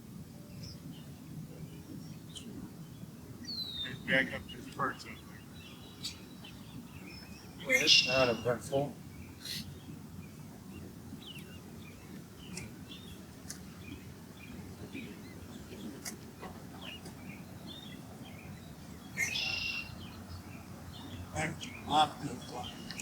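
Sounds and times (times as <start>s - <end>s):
birds chirping: 0.5s - 23.0s.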